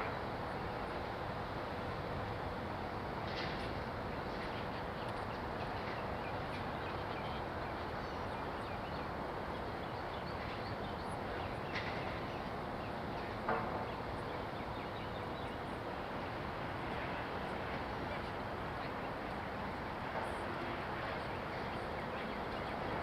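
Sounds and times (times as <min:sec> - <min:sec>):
distant city traffic: 0:00.0 - 0:23.0.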